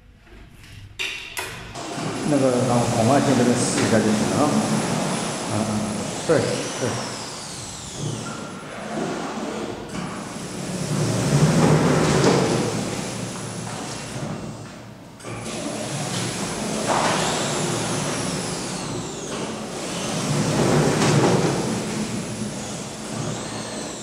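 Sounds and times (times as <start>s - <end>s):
roller shutter door whirring: 1.6s - 24.0s.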